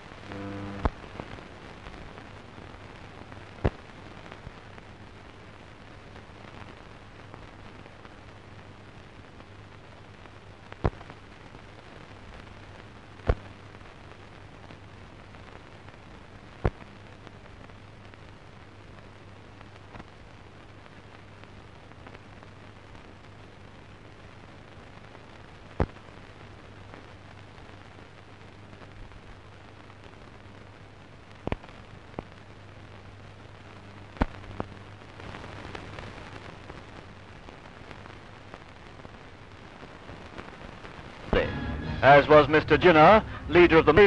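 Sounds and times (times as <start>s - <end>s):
film soundtrack hiss and hum: 0.0s - 44.0s.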